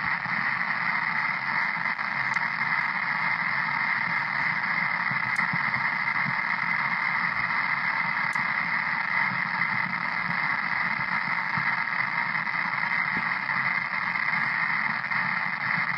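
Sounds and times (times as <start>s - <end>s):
radio static hiss: 0.0s - 15.9s.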